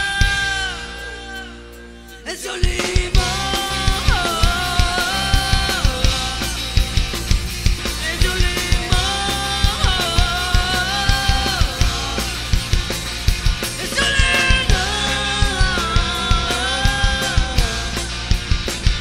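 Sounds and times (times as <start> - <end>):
bass guitar: 0.0 - 19.0
driving drum beat: 0.0 - 19.0
electric guitars bending notes: 0.0 - 19.0.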